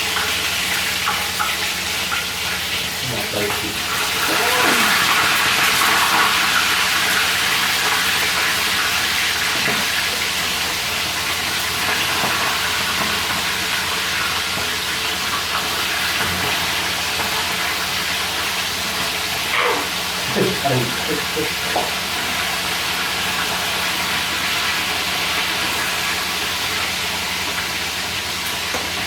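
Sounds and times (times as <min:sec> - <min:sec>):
fish sizzling in hot oil: 0:00.0 - 0:29.0.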